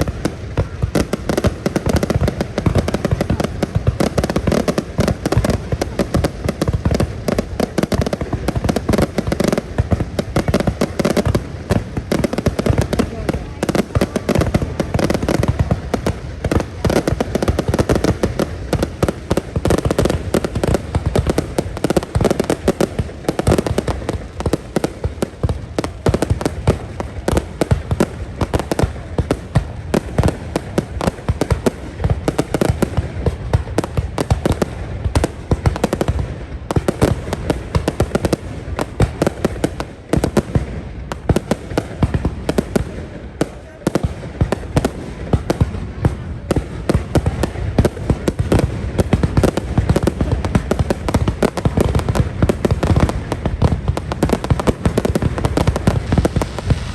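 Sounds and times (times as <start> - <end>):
fireworks bursts and crackling: 0.0 - 56.9.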